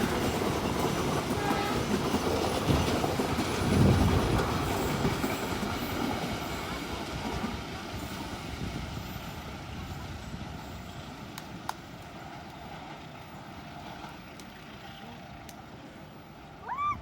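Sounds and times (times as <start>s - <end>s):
passing train rumble: 0.0s - 17.0s.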